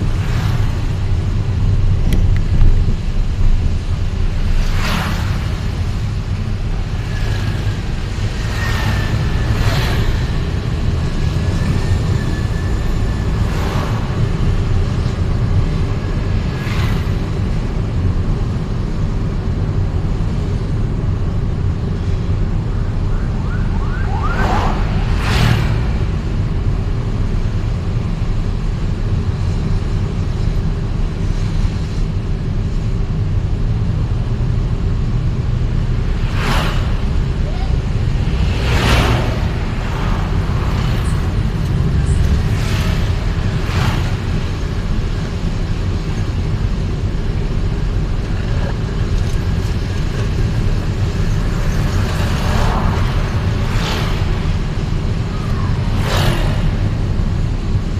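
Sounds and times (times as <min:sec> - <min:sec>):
other vehicles passing: 0:00.0 - 0:57.9
vehicle driving on city roads: 0:00.0 - 0:57.9.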